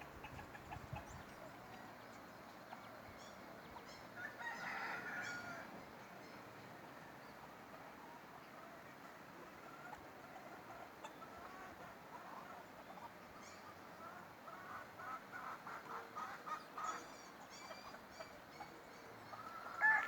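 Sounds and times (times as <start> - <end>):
faint background noise: 0.0 - 20.0.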